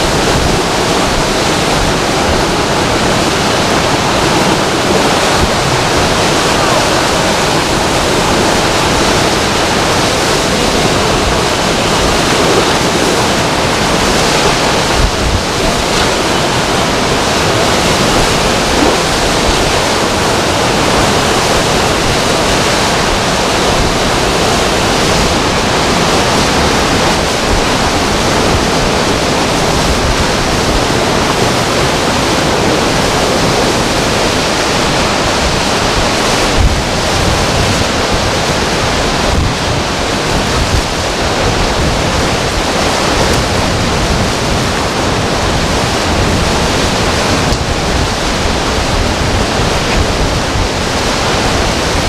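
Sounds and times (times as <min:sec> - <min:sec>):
strong wind buffeting microphone: 0:00.0 - 0:52.0.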